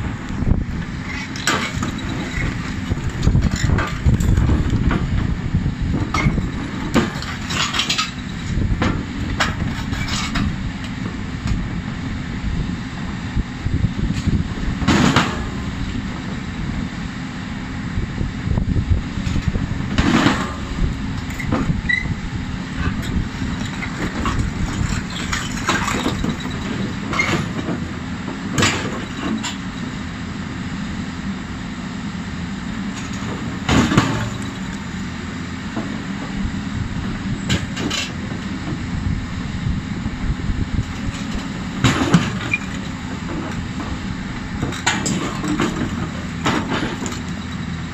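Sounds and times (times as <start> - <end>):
excavator engine and hydraulics: 0.0 - 47.9.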